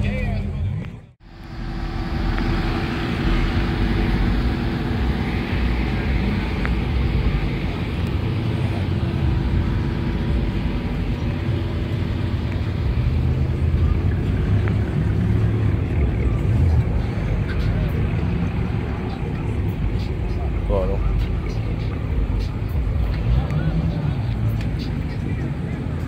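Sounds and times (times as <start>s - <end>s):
car engines rolling past: 0.0s - 26.0s.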